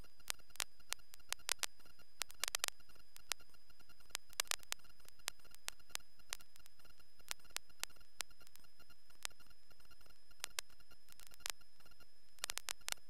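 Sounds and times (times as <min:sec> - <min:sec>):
electrical hiss: 0:00.0 - 0:13.0
sharp clicks: 0:00.0 - 0:13.0.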